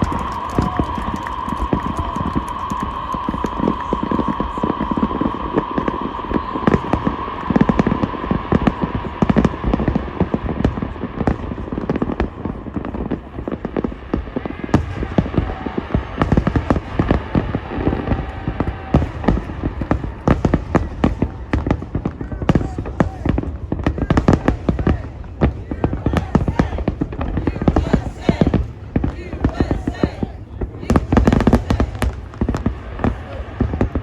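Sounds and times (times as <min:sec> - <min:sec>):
fireworks popping and booming: 0:00.0 - 0:34.0.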